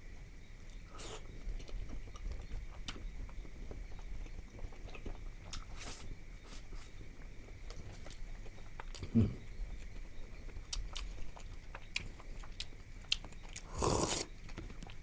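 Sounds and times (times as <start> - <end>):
person chewing food: 0.9 - 15.0.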